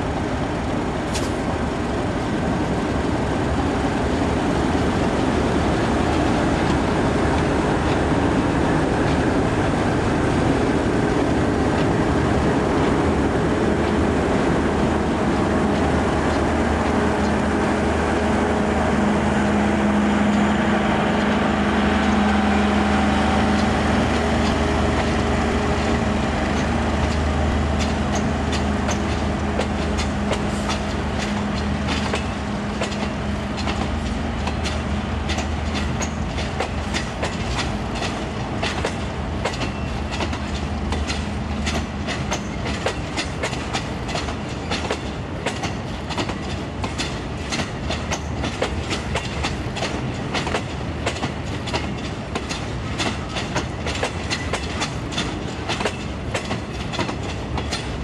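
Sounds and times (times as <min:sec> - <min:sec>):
diesel locomotive engine drone: 0:00.0 - 0:58.0
train wheels clacking on rail joints: 0:00.1 - 0:58.0.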